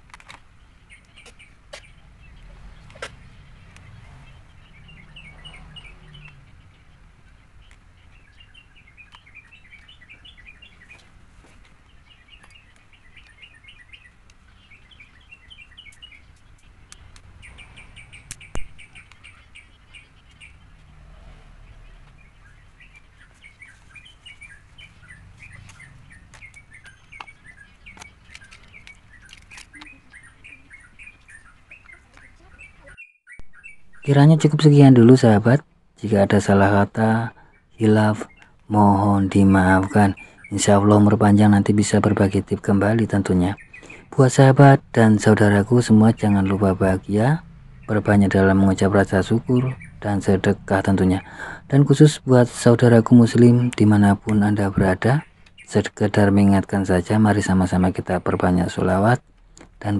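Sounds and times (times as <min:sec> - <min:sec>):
small birds twittering: 0:00.0 - 0:59.9.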